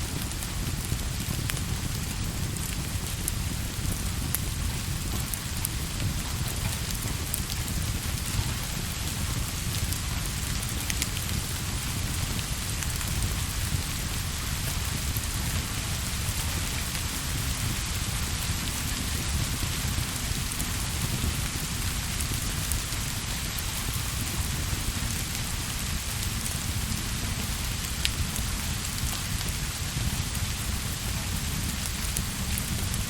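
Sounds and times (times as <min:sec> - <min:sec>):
rain on a surface: 0:00.0 - 0:33.0.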